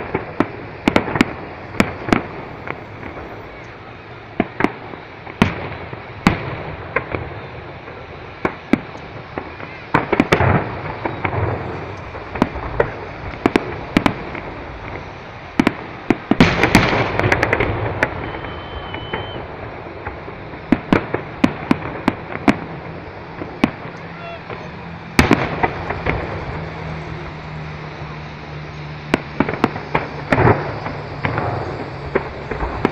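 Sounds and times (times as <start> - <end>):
fireworks bangs and pops: 0.0 - 32.9.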